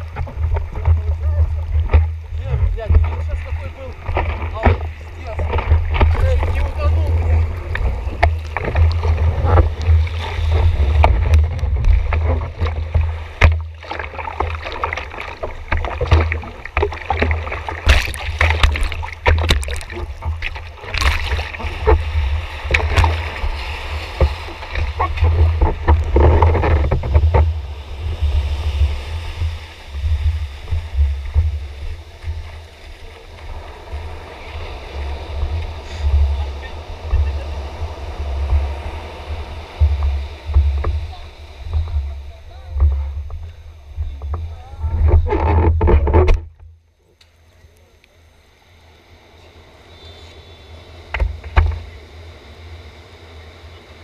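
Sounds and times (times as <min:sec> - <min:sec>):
water sloshing and splashing: 0:00.0 - 0:46.8
low rumble of water buffeting: 0:00.0 - 0:54.0.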